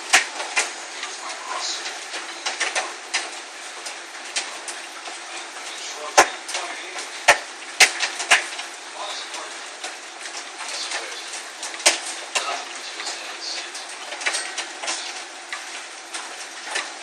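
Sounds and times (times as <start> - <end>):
hail and rain hissing: 0.0 - 17.0
hailstones cracking loudly: 0.0 - 17.0
hailstones ticking: 0.0 - 17.0.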